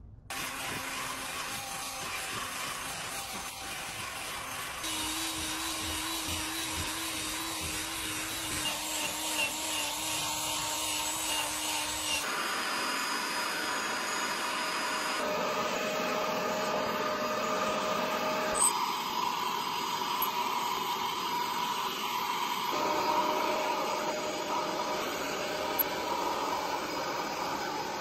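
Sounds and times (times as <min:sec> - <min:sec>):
cordless drill motor whine: 0:00.3 - 0:28.0.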